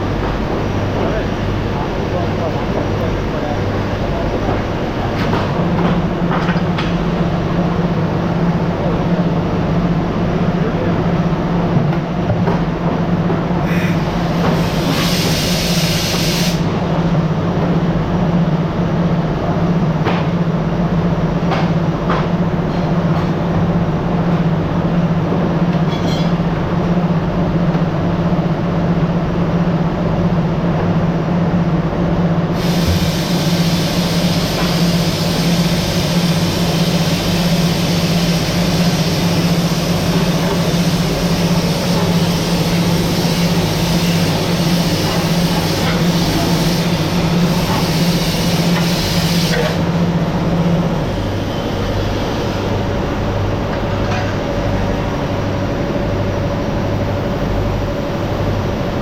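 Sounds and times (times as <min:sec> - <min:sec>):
factory machinery drone: 0:00.0 - 0:59.0.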